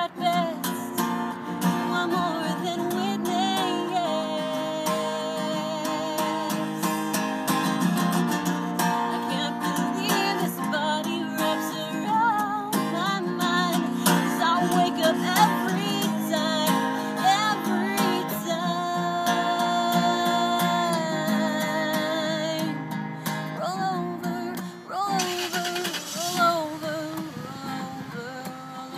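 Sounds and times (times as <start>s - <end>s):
acoustic guitar strumming: 0.0s - 28.9s
woman singing: 0.0s - 28.9s.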